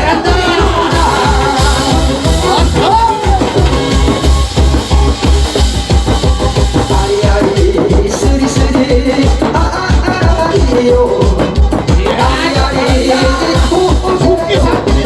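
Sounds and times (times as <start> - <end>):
loud music with heavy drum beat: 0.0 - 15.0.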